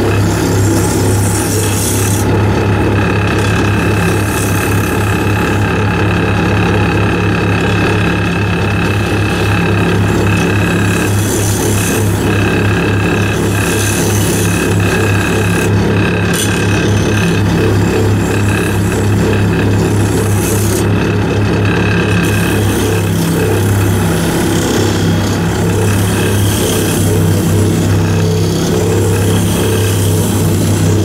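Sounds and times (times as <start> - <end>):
chisel scraping spinning wood: 0.0 - 31.0
wood lathe humming and whining: 0.0 - 31.0.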